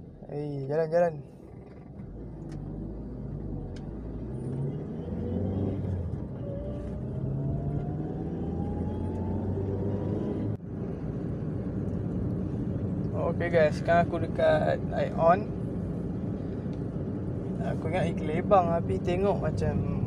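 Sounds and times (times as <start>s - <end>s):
car engine inside cabin: 0.0s - 20.0s
road noise: 0.0s - 20.0s.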